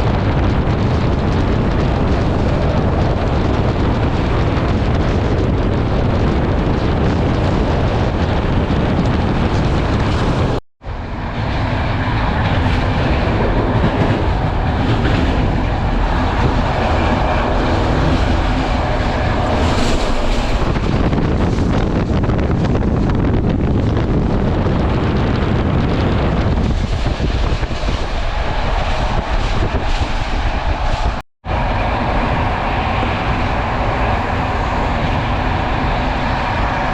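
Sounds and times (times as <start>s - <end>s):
train rumbling on rails: 0.0s - 36.9s
wind rushing: 0.0s - 36.9s.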